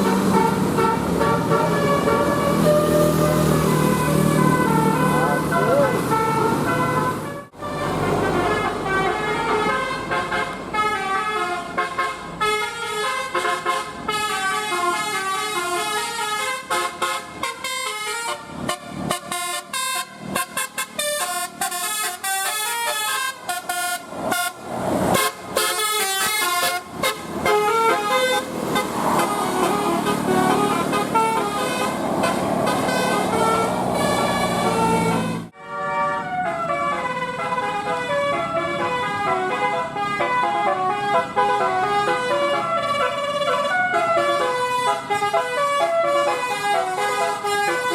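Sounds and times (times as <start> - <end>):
multi-tone musical bus horn: 0.0 - 47.9.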